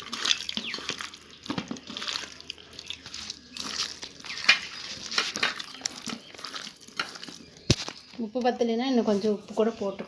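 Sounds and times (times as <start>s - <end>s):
hands squishing chicken in marinade: 0.0s - 8.2s.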